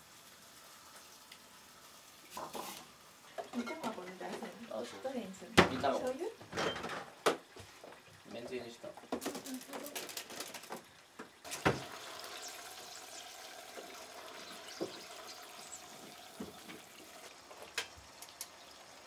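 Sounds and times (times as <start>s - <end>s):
sauce sizzling in frying pan: 0.0s - 6.5s, 7.1s - 19.0s.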